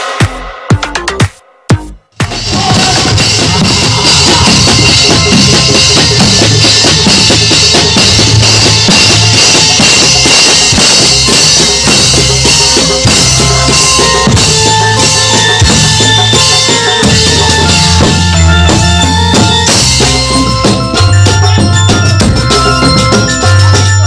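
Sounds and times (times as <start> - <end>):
fast loud drumming: 0.0 - 24.0.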